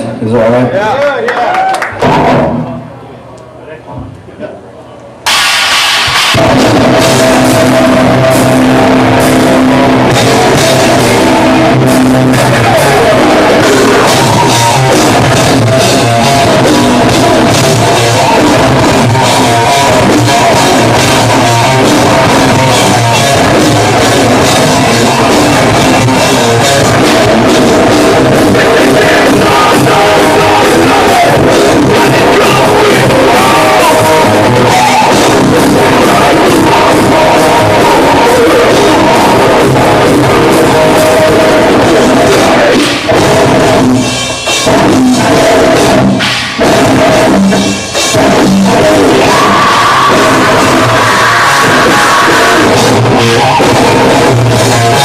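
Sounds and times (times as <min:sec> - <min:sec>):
live metal band playing: 0:05.3 - 0:55.0
person singing: 0:06.4 - 0:55.0.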